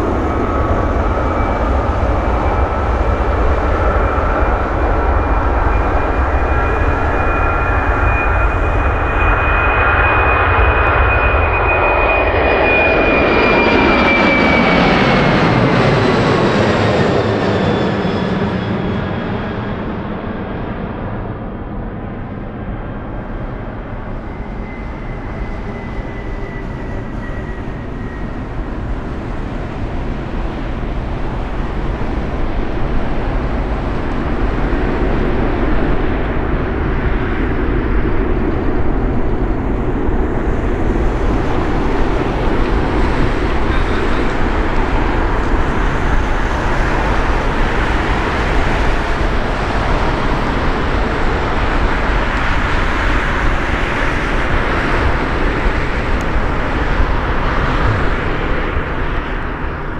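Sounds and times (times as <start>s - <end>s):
jet engines roaring at takeoff: 0.0s - 59.9s.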